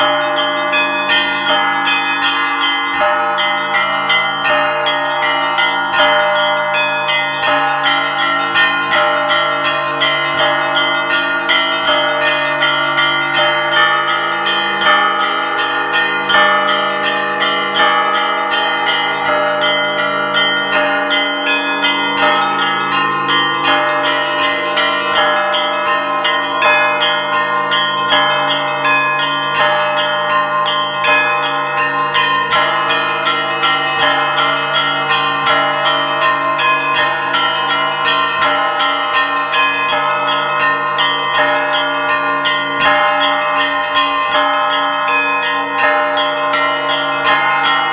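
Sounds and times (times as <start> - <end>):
deep bells humming: 0.0 - 47.9
small church bells pealing rapidly: 0.0 - 47.9.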